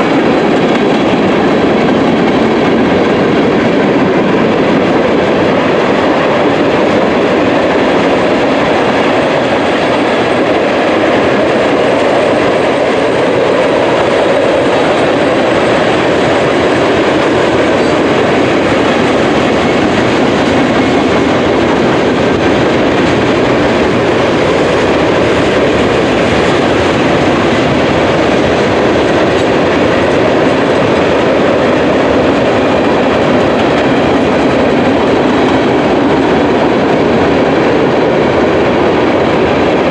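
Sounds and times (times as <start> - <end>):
steel wheels running on rails: 0.0 - 39.9.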